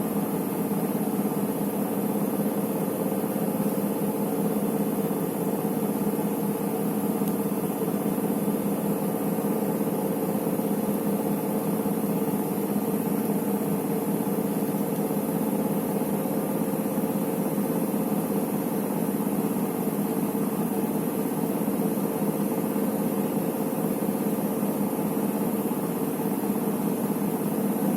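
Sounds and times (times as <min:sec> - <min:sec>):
washing machine spinning: 0:00.0 - 0:27.9.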